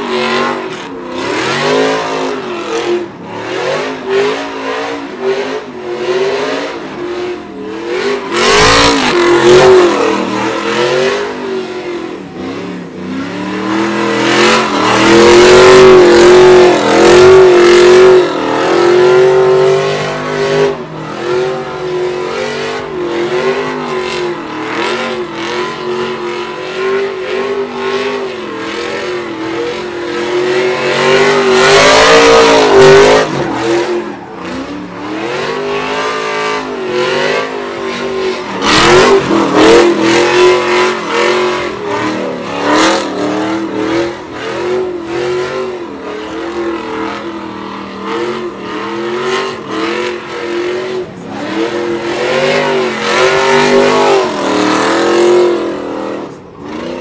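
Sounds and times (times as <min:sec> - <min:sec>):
pickup engine revving: 0:00.0 - 0:57.0
tires spinning on pavement: 0:00.0 - 0:57.0.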